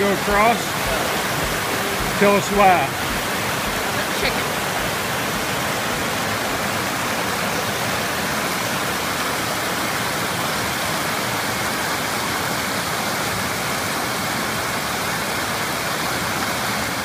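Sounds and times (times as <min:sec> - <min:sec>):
stream rushing over boulders: 0:00.0 - 0:17.0.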